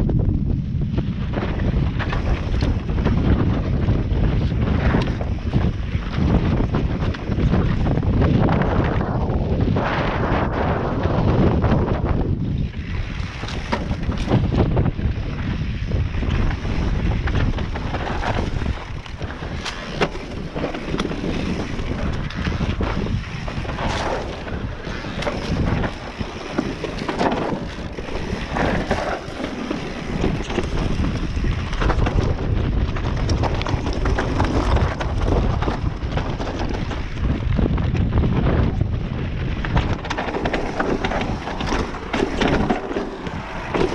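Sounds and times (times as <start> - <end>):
bike knocks and rattles: 0.0 - 43.9
wind buffeting microphone: 0.0 - 43.9.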